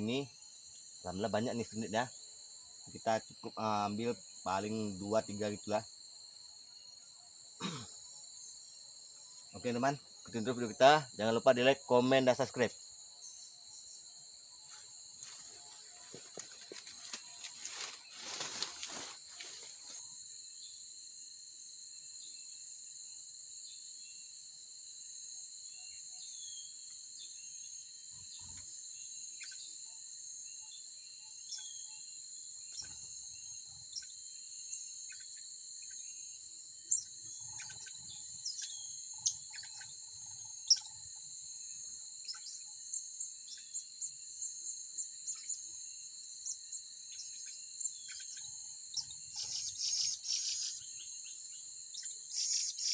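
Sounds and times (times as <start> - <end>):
high-pitched insect drone: 0.0 - 52.9.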